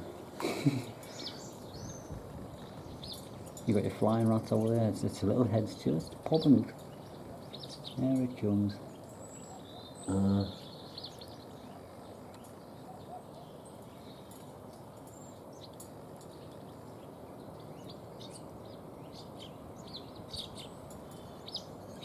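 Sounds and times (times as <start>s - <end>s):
outdoor background hiss: 0.0s - 22.0s
songbirds chirping: 0.0s - 22.0s.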